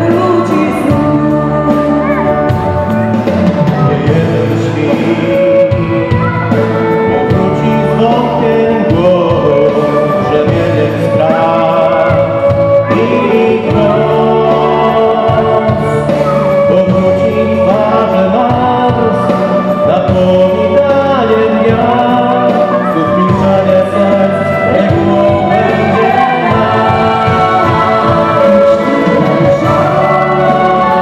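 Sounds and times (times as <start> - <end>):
instrumental accompaniment: 0.0 - 31.0
voices singing a carol: 0.0 - 31.0.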